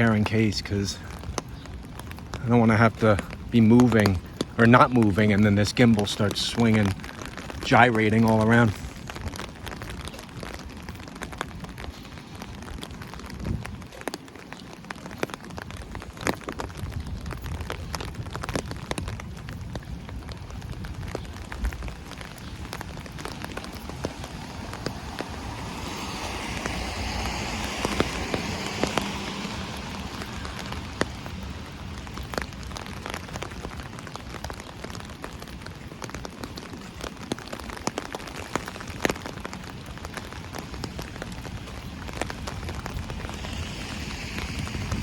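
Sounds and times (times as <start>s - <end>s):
rain pattering on an umbrella: 0.0s - 45.0s.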